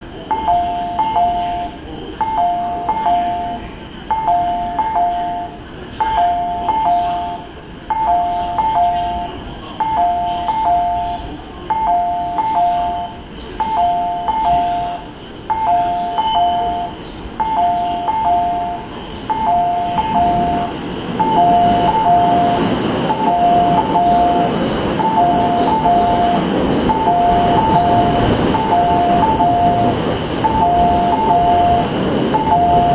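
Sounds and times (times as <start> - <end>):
electric train arriving rumble: 0.0 - 32.9
two-tone warning chime: 0.2 - 32.9.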